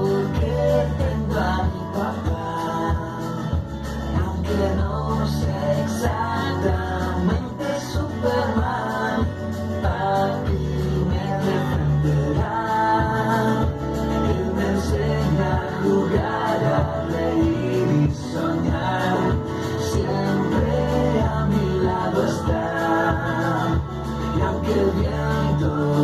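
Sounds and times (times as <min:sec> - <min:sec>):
song with singing and beat: 0:00.0 - 0:26.0.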